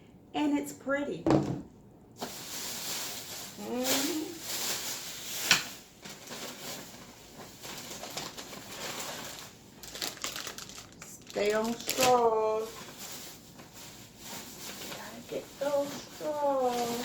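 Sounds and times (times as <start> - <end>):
packaging rustling: 2.2 - 17.0.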